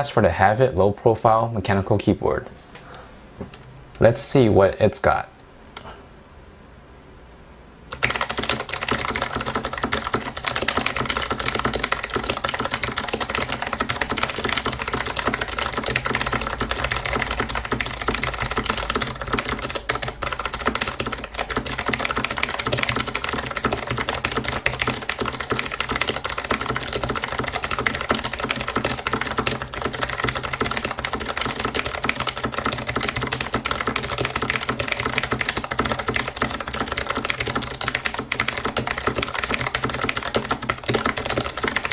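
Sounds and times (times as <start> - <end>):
fast typing on clicky keyboard: 7.9 - 41.9.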